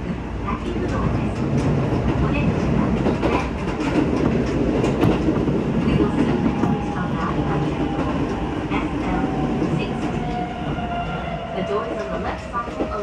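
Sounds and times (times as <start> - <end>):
train wheel and rail noise: 0.0 - 13.0.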